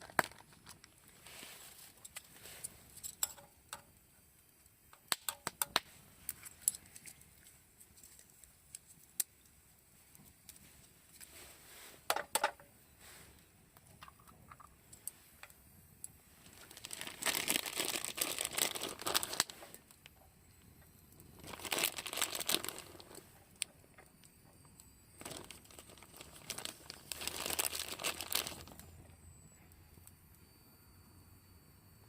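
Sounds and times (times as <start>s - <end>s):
crinkling and rustling handling: 0.0s - 3.9s, 5.8s - 29.2s.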